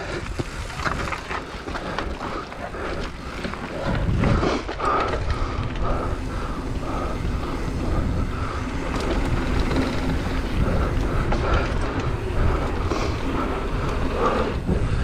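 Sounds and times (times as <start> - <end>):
bike chain rattling and clicking: 0.0 - 15.0
bike tyres on dirt: 0.0 - 15.0
heavy rumble: 0.0 - 15.0.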